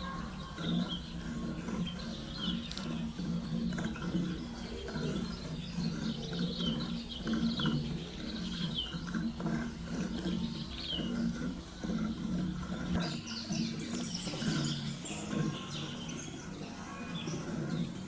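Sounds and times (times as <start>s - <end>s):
low pulsing animal call: 0.0s - 18.0s.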